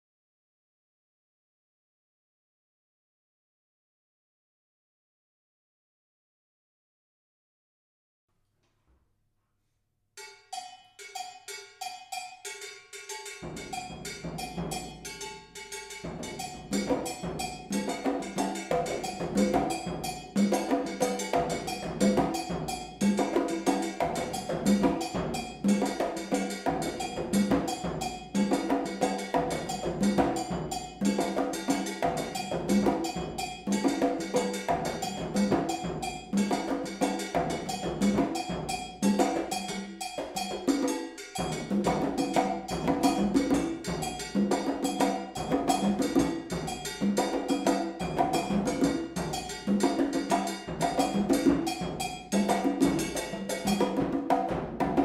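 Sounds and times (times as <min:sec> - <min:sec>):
layered percussion rhythms: 0:10.2 - 0:55.0.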